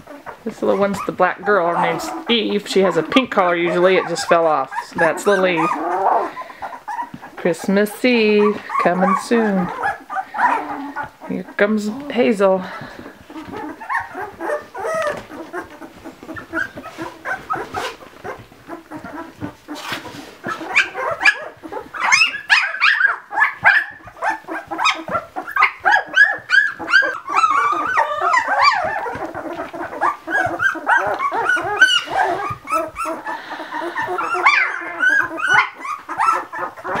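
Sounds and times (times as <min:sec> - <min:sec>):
puppies whining and squealing: 0:00.0 - 0:37.0.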